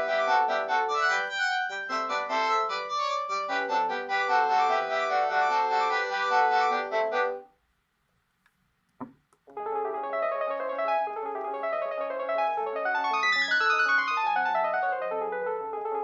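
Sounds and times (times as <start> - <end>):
phone ringtone melody: 0.0 - 7.4, 9.8 - 16.0.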